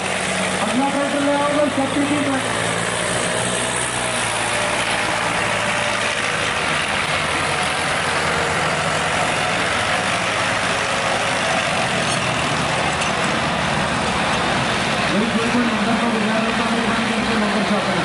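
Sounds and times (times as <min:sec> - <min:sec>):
loud tractor engine running: 0:00.0 - 0:18.0.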